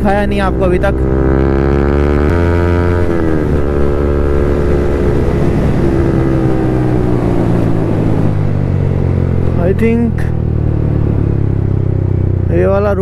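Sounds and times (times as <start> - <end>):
motorcycle engine running: 0.0 - 13.0
wind rushing on microphone: 0.0 - 13.0.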